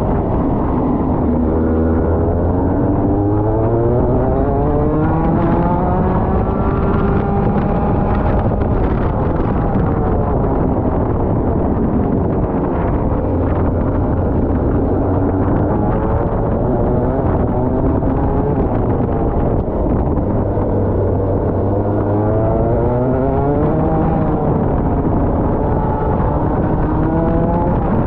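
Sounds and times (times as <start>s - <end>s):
wind buffeting microphone: 0.0s - 28.0s
kart engine revving: 0.2s - 28.0s.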